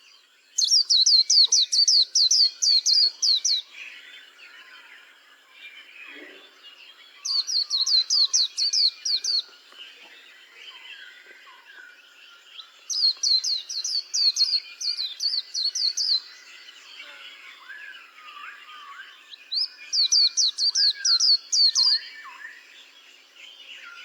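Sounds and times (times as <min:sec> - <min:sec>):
birds twittering: 0:00.0 - 0:24.0.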